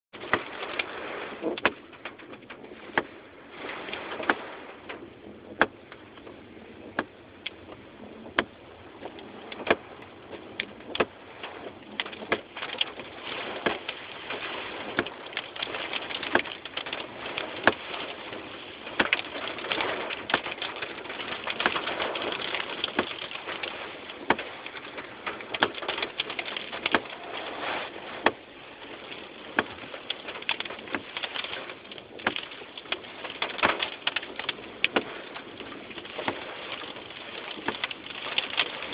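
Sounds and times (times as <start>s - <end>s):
squall wind gusting: 0.2s - 38.9s.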